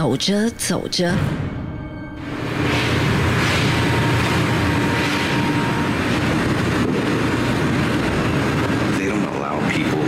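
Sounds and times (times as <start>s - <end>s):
low rumbling drone: 1.2s - 10.0s.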